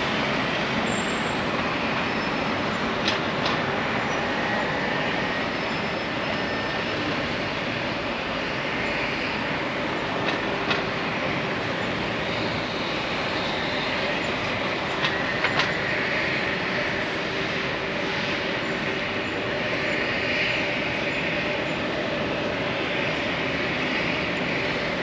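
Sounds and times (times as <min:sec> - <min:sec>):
urban street hum: 0:00.0 - 0:25.0.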